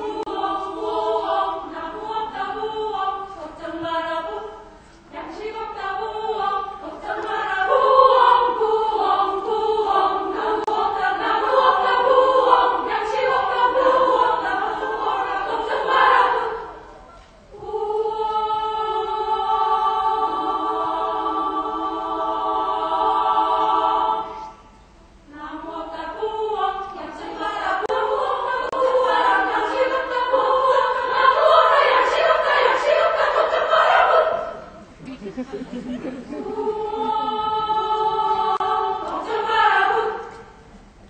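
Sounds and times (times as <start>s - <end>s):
women's choir singing a cappella: 0.0s - 24.7s, 25.3s - 40.7s.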